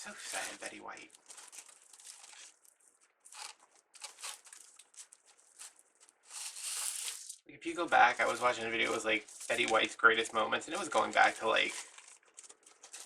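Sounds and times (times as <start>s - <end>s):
mesh and ribbon crinkling: 0.0s - 13.0s.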